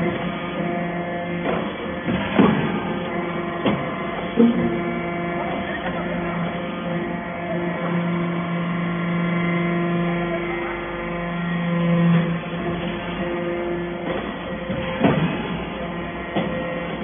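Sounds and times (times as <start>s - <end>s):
hydraulic power unit hum: 0.0s - 17.0s.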